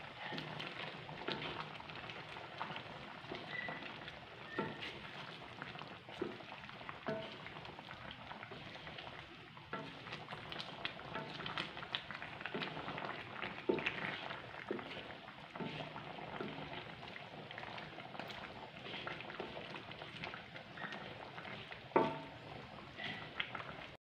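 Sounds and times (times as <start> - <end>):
sauce simmering and bubbling: 0.0 - 24.0
wooden spatula scraping a wok: 0.0 - 24.0.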